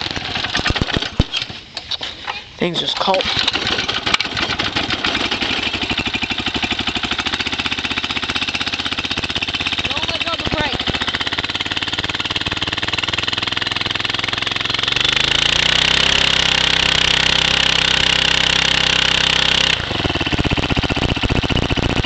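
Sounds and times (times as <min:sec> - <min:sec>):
go-kart engine idling and revving: 0:00.0 - 0:22.0.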